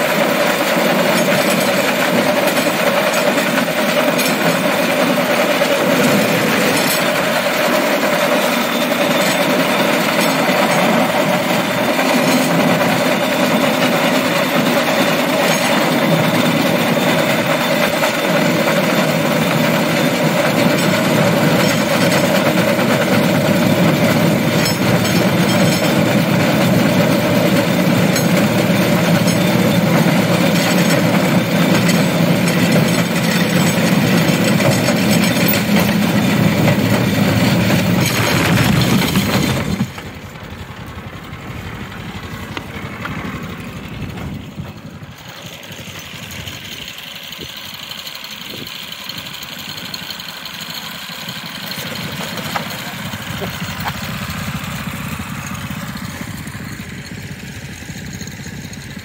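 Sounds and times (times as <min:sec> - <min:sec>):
steel wheels droning on rails: 0:00.0 - 0:59.0.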